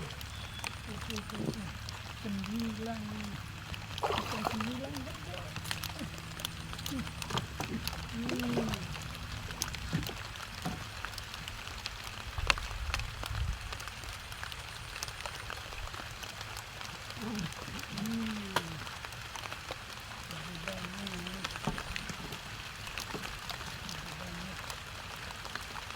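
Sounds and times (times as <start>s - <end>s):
rain drops tapping: 0.0s - 25.9s.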